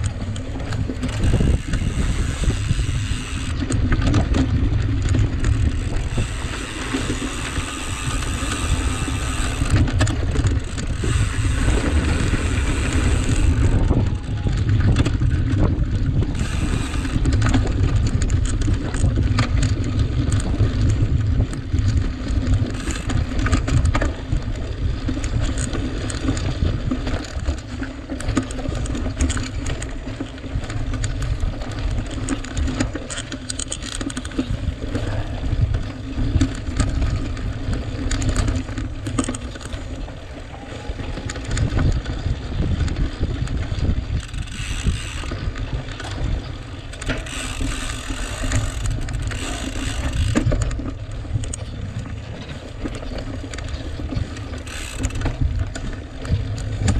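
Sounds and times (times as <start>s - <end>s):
bike rattling and clicking: 0.0s - 56.9s
wind rumble on microphone: 0.0s - 56.9s.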